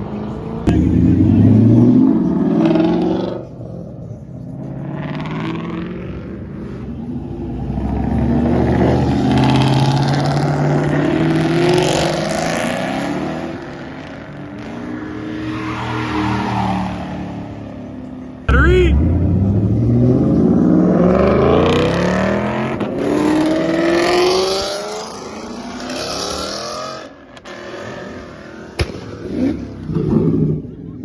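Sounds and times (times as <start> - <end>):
car engines revving past: 0.0 - 31.0.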